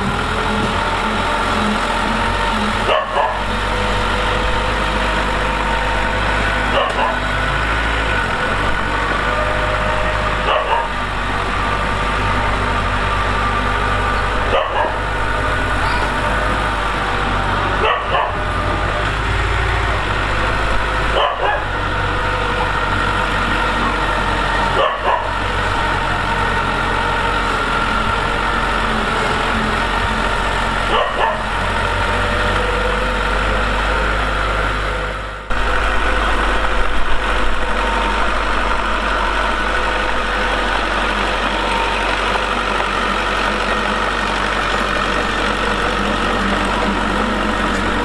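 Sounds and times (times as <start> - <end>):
diesel engine of heavy machinery: 0.0 - 48.0.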